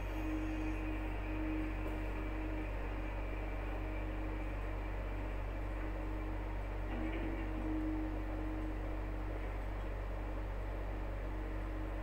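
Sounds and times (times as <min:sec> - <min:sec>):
faint steady tone: 0:00.0 - 0:12.0
low hum: 0:00.0 - 0:12.0.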